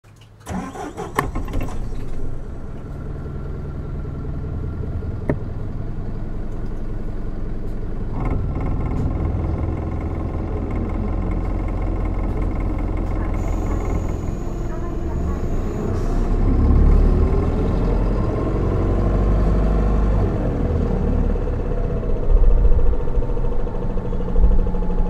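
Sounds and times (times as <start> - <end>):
bus engine humming: 0.4 - 25.0.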